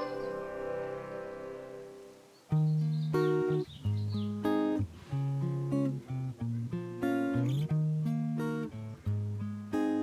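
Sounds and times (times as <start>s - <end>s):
acoustic guitar melody: 0.0s - 10.0s.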